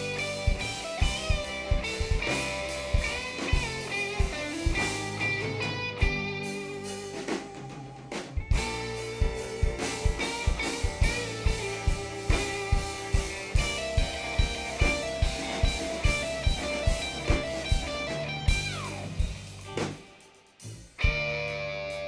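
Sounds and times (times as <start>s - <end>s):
drum beat: 0.0s - 21.4s
bass guitar: 0.0s - 22.0s
electric guitar melody: 0.0s - 22.0s
guitar slide: 0.0s - 22.0s.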